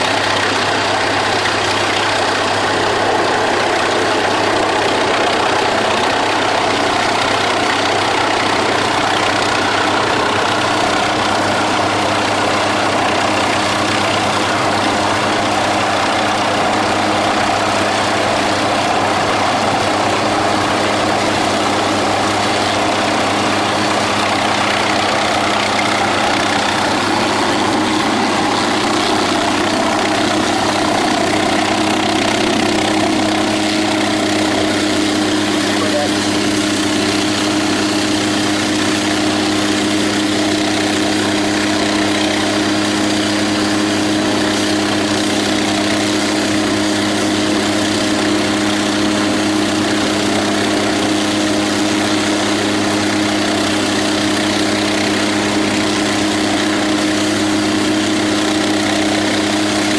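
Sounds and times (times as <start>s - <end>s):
helicopter rotor hum: 0.0s - 59.9s
turbine engine rush: 0.0s - 59.9s.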